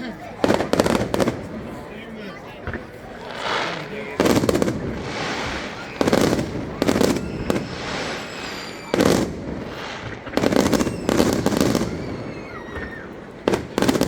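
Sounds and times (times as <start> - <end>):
fireworks bangs and crackling: 0.0 - 14.0
fireworks falling whistles: 2.7 - 14.0.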